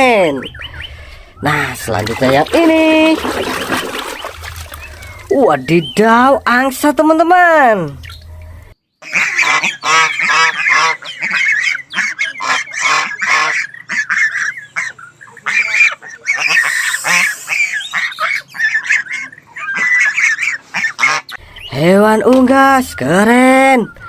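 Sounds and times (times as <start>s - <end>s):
goose honking: 0.0s - 18.9s, 19.6s - 24.0s.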